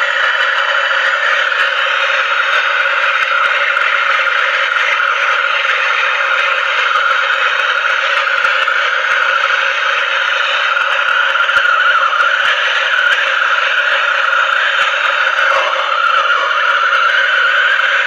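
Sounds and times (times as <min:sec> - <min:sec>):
gas torch hissing: 0:00.0 - 0:18.0.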